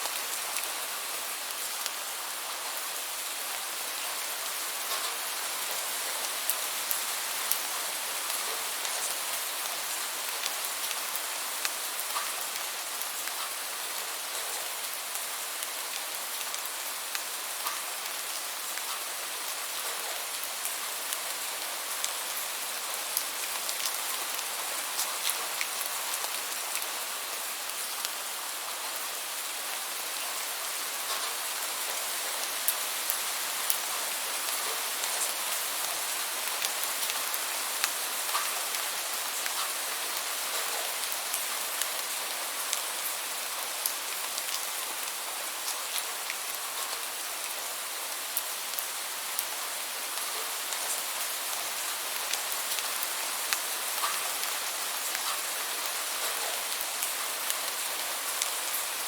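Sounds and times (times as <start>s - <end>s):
rain hiss: 0.0s - 59.0s
raindrops ticking on a surface: 0.0s - 59.0s.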